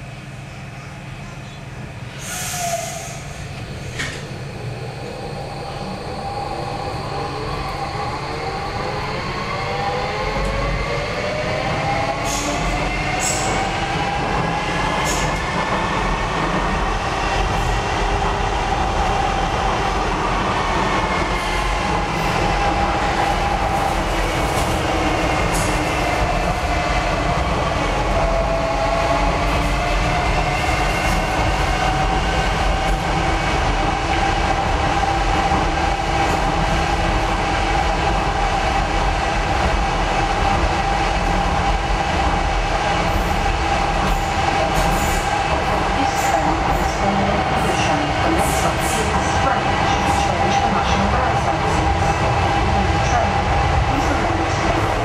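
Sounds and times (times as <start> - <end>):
train wheel and rail rumble: 0.0 - 55.0.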